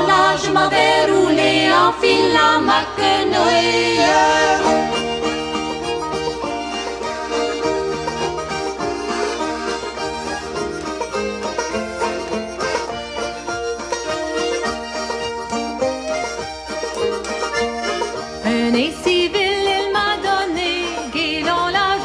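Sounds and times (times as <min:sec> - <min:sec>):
instrumental folk music: 0:00.0 - 0:22.0.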